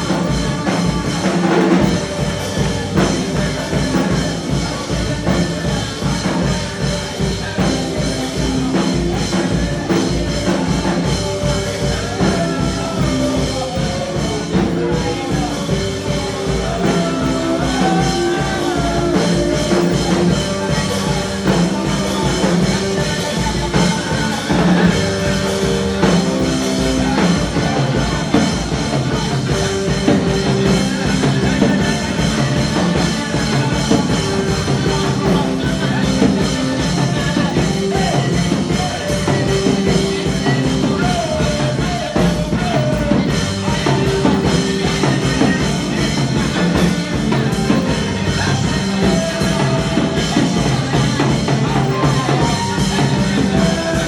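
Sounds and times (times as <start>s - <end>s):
drum kit beat: 0.0s - 54.0s.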